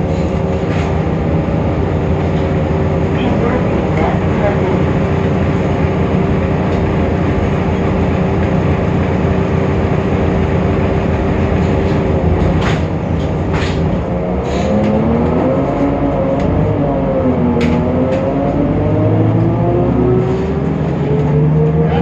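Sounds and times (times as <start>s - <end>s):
bus engine whining: 0.0s - 22.0s.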